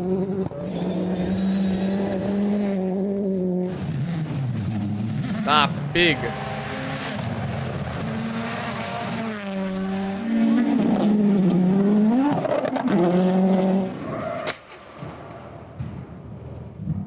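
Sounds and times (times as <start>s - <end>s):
rally car engine at full throttle: 0.0s - 14.5s.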